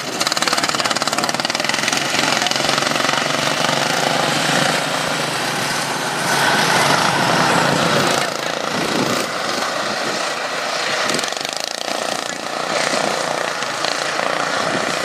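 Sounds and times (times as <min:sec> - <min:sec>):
lawn tractor engines racing: 0:00.0 - 0:15.0.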